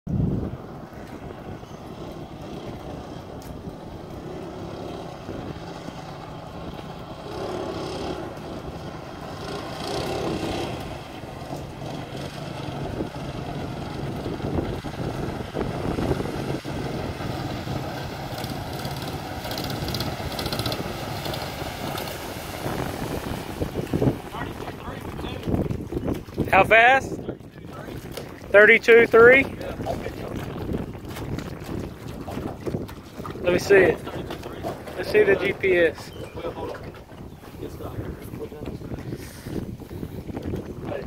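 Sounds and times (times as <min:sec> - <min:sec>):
wind buffeting microphone: 0:00.1 - 0:41.0
boat engine running: 0:00.2 - 0:41.0.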